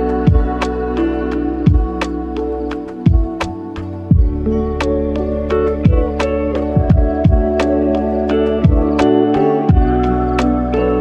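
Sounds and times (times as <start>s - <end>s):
gentle background music: 0.0s - 11.0s.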